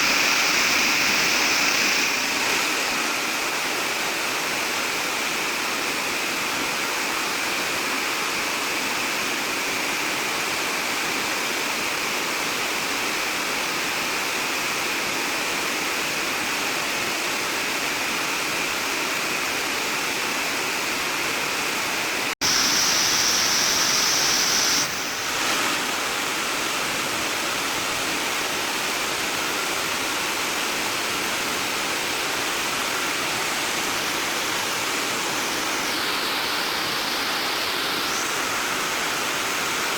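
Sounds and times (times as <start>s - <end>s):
rushing floodwater: 0.0s - 39.9s.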